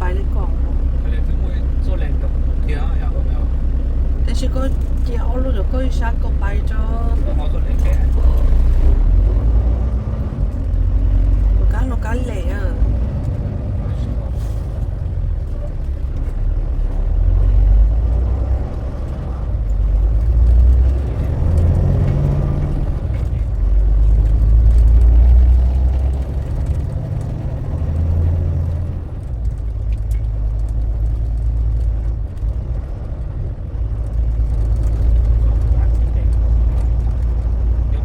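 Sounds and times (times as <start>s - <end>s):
truck engine rumble: 0.0s - 38.0s.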